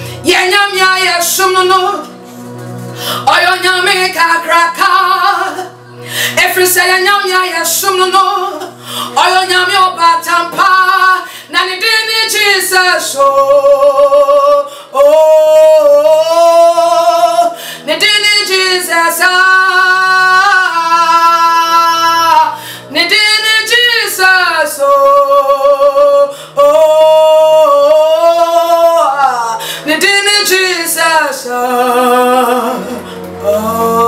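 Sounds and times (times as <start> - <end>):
woman singing with vibrato: 0.0 - 2.2, 2.9 - 34.0.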